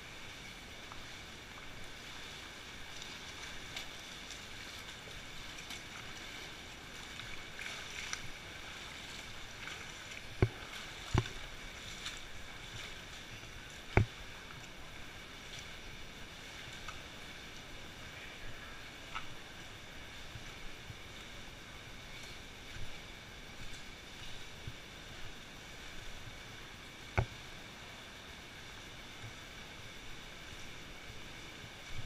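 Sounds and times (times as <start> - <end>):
rushing stream water: 0.0 - 32.0
water splashing from wading: 0.0 - 32.0.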